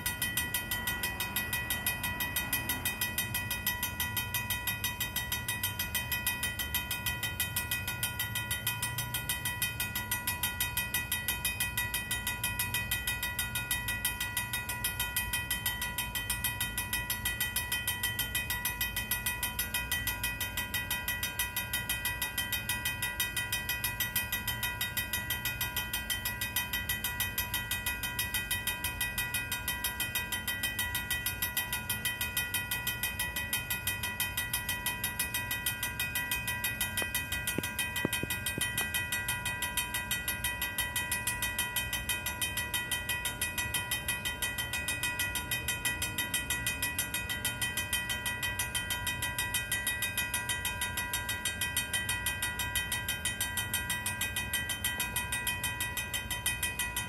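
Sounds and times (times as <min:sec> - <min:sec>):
railroad crossing bell ringing: 0:00.0 - 0:57.0.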